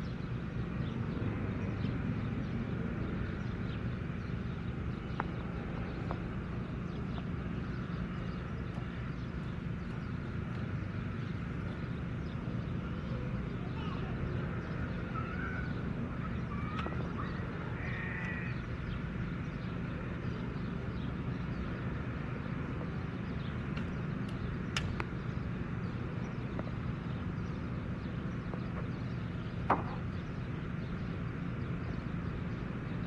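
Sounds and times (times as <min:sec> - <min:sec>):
outdoor background rumble: 0:00.0 - 0:33.0.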